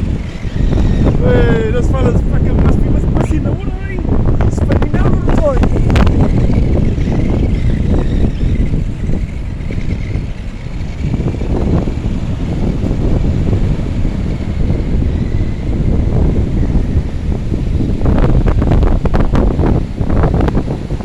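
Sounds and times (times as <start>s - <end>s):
toy truck motor whine: 0.0s - 2.2s, 4.9s - 21.0s
wind buffeting microphone: 0.0s - 21.0s.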